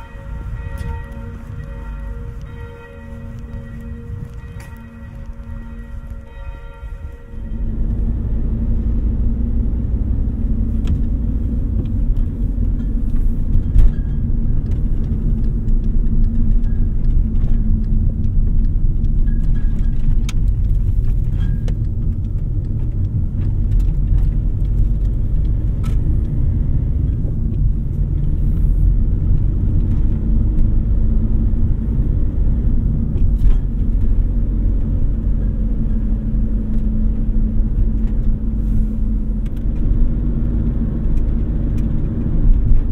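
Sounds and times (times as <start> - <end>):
car cabin road rumble: 0.0 - 42.9.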